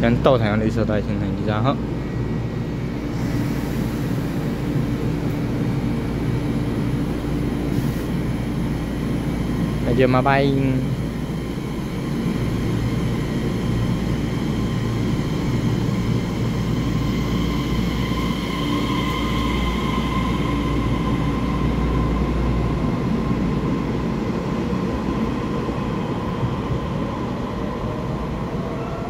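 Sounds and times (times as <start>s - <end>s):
train rumbling past: 0.0s - 29.0s
high whine: 1.1s - 29.0s.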